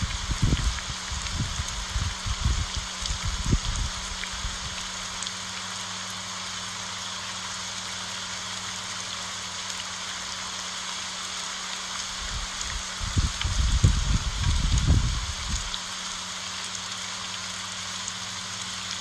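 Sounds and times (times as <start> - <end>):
rain on large leaves: 0.0 - 19.0.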